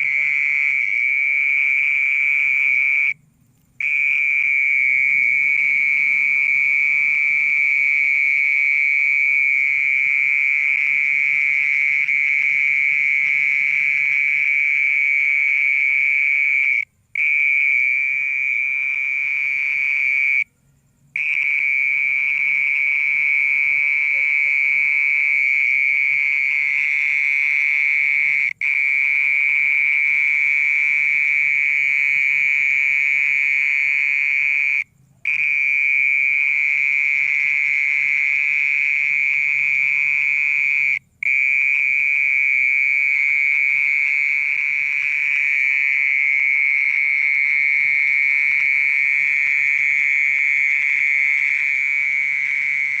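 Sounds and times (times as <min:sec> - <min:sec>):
mole cricket buzzing trill: 0:00.0 - 0:53.0.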